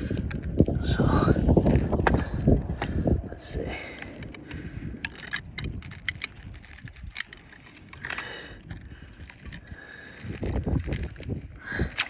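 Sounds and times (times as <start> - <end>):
ice and snow crunching: 0.6 - 12.0.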